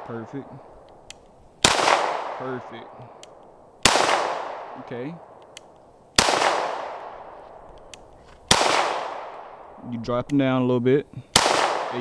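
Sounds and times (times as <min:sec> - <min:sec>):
pistol shots echoing: 0:00.0 - 0:09.8, 0:11.3 - 0:12.0.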